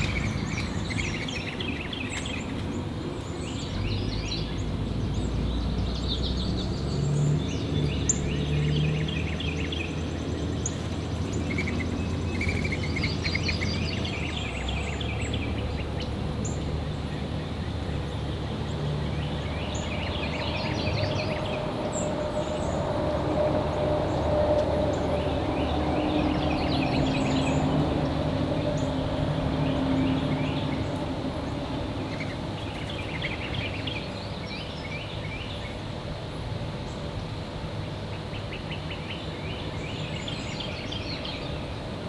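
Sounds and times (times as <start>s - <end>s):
songbirds singing: 0.0s - 42.0s.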